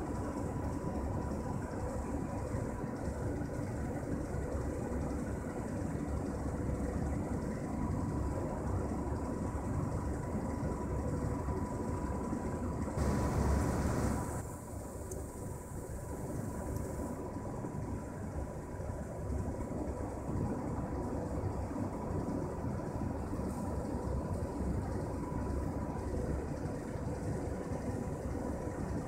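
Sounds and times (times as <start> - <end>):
small motor rumbling with whine: 0.0 - 29.0.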